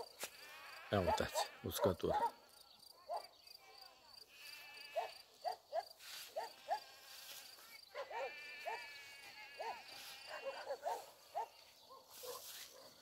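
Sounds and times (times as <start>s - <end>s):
soft insect trill: 0.0s - 1.6s, 2.4s - 12.8s
crickets chirping: 0.0s - 12.9s.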